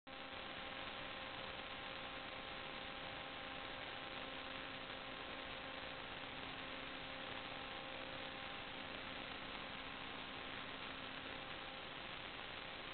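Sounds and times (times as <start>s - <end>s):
faint hiss with electrical hum: 0.1s - 12.9s.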